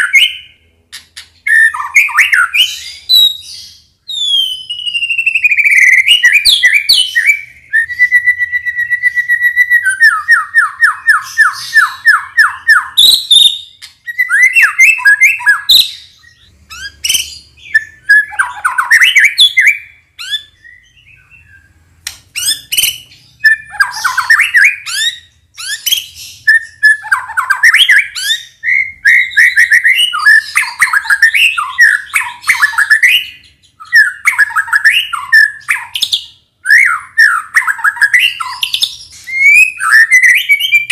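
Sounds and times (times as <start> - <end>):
songbird singing loudly: 1.2 - 40.9.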